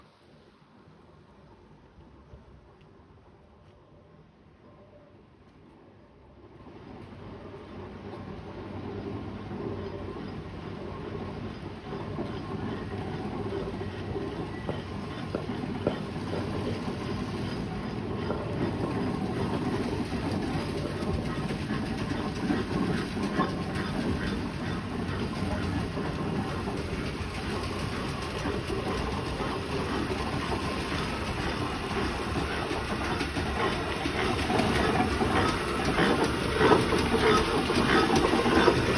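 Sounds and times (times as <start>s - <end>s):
road roller rumbling and clattering: 6.4s - 38.9s.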